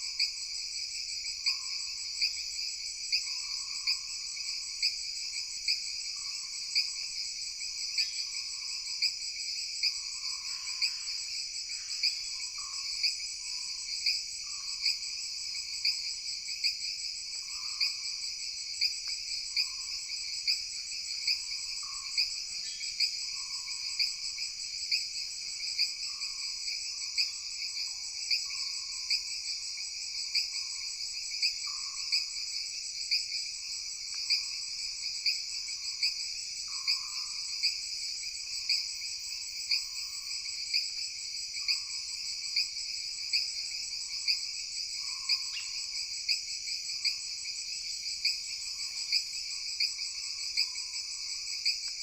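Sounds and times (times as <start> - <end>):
crickets and insects chorus: 0.0 - 52.0.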